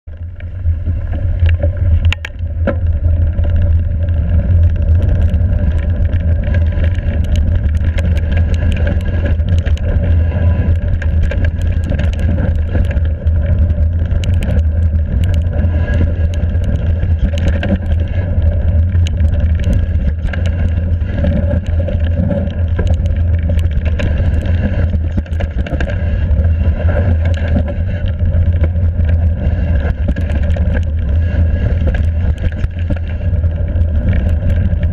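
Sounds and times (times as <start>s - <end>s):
wind rumble on microphone: 0.0s - 34.9s
bike rattling and clacking: 0.1s - 34.9s.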